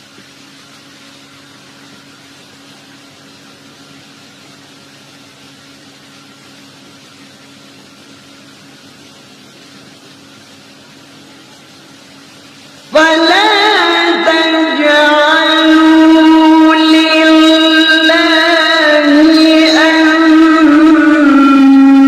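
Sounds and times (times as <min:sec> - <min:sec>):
background hum and hiss: 0:00.0 - 0:22.0.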